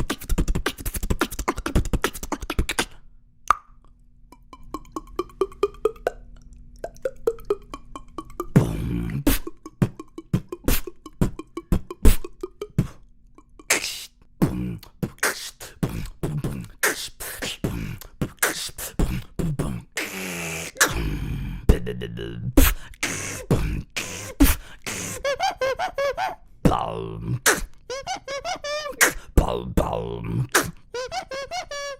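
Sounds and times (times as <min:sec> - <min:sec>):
beatboxing: 0:00.0 - 0:03.0, 0:04.3 - 0:31.9.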